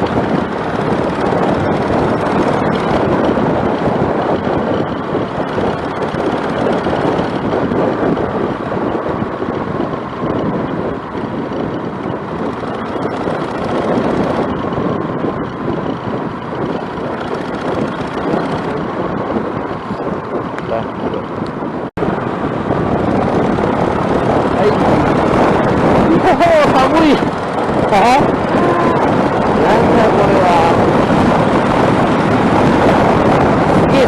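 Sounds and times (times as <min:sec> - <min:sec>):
motorcycle engine running: 0:00.0 - 0:34.0
wind on microphone: 0:00.0 - 0:34.0.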